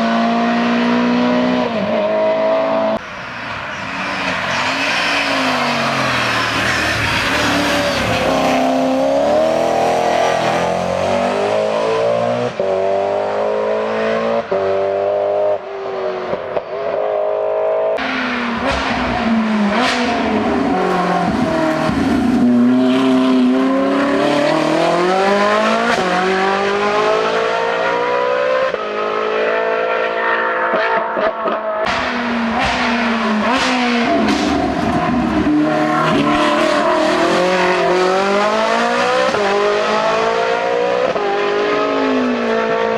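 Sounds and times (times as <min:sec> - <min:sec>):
race car engines accelerating: 0:00.0 - 0:42.9.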